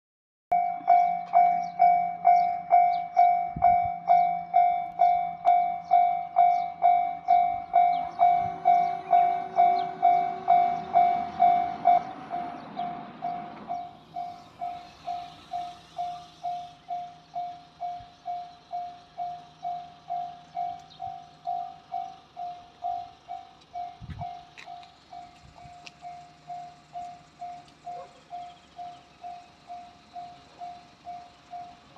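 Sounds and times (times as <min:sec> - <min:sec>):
level crossing warning bell: 0:00.5 - 0:31.9
train passing: 0:00.8 - 0:31.9.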